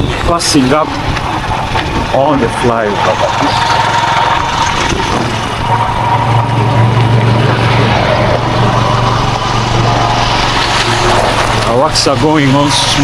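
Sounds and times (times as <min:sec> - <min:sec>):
constant low hum: 0:00.0 - 0:13.0
vehicle engine and road noise: 0:00.0 - 0:13.0.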